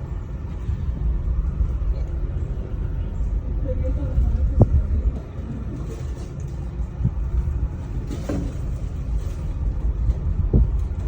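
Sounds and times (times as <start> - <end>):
cable car cabin rumble: 0.0 - 11.0.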